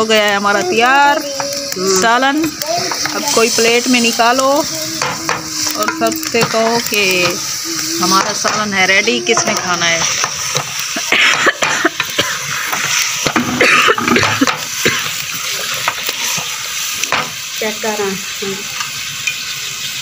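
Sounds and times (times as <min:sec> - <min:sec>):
curry sizzling: 0:00.0 - 0:20.0
wooden spatula scraping pot: 0:00.3 - 0:16.6.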